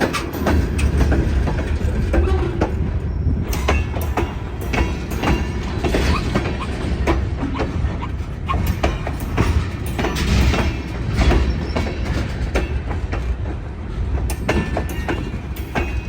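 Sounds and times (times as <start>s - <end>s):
train cars rumbling: 0.0s - 16.0s
wheels clanking on rails: 0.0s - 16.0s.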